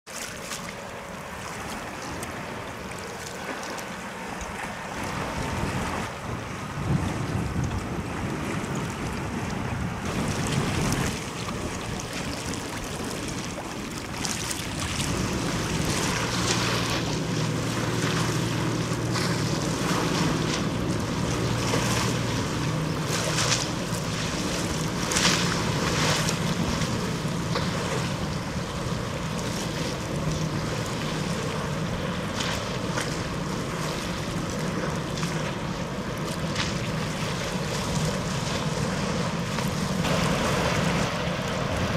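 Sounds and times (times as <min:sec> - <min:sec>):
low drone of ship engines: 0:00.1 - 0:41.9
water lapping: 0:00.1 - 0:41.9
wind on microphone: 0:04.4 - 0:41.9.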